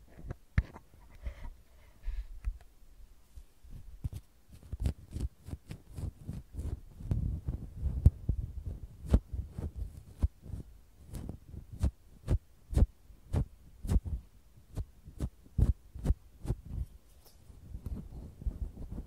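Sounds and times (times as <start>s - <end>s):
ear picks brushing and scraping: 3.4s - 19.0s.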